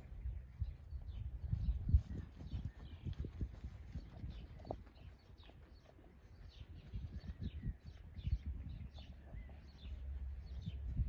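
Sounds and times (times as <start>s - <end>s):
horse hooves trotting on sand: 0.0s - 11.0s
small birds chirping: 0.0s - 11.0s.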